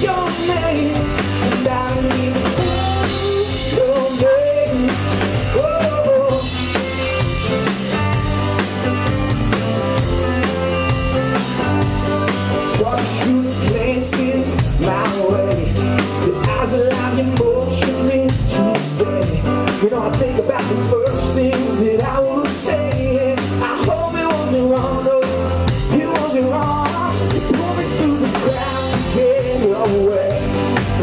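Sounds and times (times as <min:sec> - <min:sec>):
man singing: 0:00.0 - 0:06.8, 0:12.5 - 0:31.0
drum kit beat: 0:00.0 - 0:31.0.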